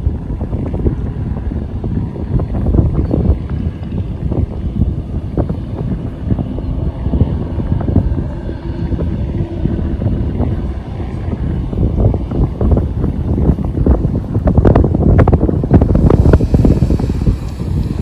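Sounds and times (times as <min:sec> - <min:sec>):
faint jet engine hum: 0:00.0 - 0:18.0
wind buffeting microphone: 0:00.0 - 0:18.0.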